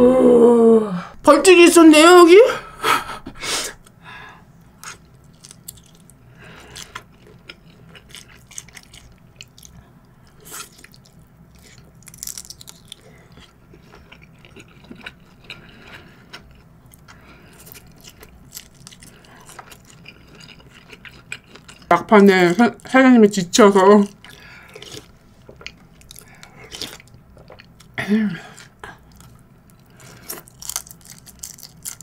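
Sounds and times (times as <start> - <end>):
person chewing: 4.8 - 22.8, 24.1 - 32.0.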